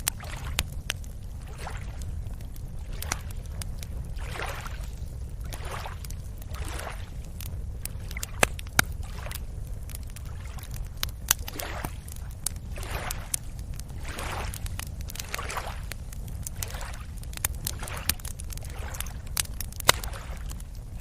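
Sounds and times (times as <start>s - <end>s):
steady low rumble: 0.0s - 21.0s
small waves lapping at shore: 0.2s - 20.7s.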